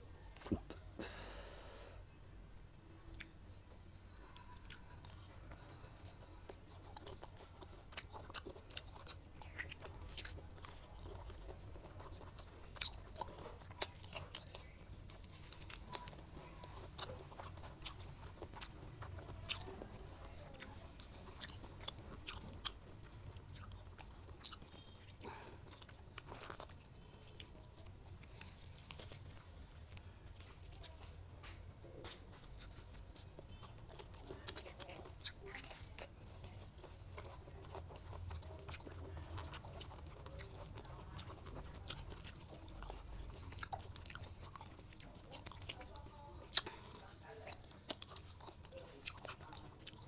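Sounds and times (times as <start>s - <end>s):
person chewing wetly: 4.2s - 50.0s.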